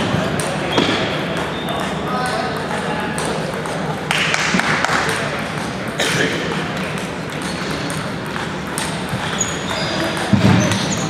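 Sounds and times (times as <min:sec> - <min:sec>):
sports hall noise: 0:00.0 - 0:11.0
table tennis balls clicking: 0:00.0 - 0:11.0.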